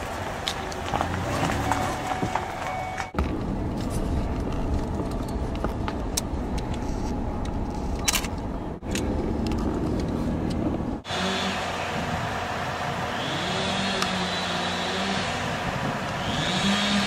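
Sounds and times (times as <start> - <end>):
car tyres and engine rumble: 0.0 - 17.0.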